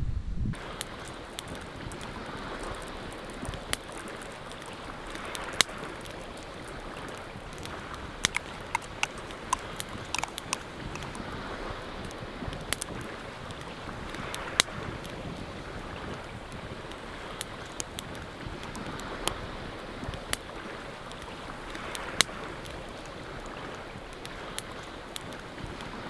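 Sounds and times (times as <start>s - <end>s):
wind noise: 0.0s - 26.0s.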